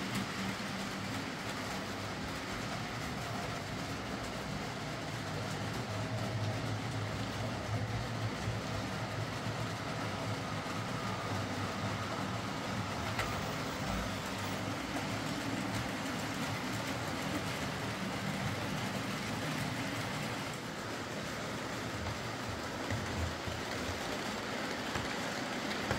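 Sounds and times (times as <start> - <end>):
wheels rumbling on track: 0.0 - 25.9.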